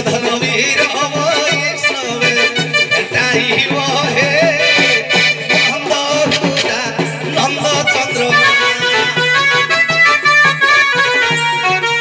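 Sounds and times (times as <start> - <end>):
folk music melody: 0.0 - 12.0.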